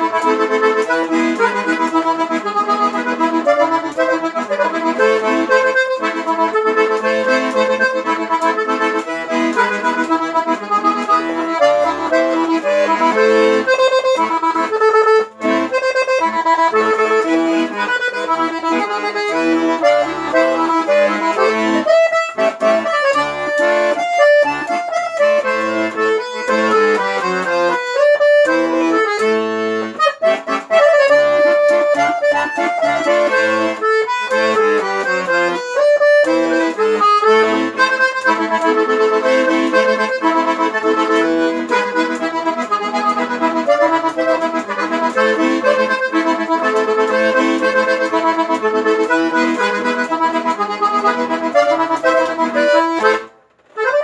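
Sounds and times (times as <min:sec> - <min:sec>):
accordion playing tune: 0:00.0 - 0:54.0.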